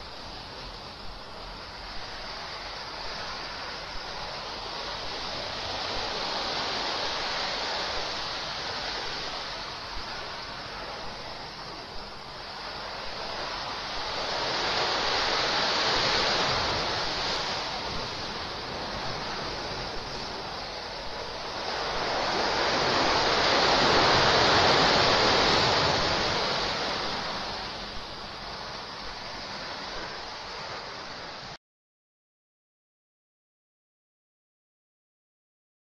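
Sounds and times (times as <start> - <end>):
surf breaking on rocky shore: 0.0 - 31.6.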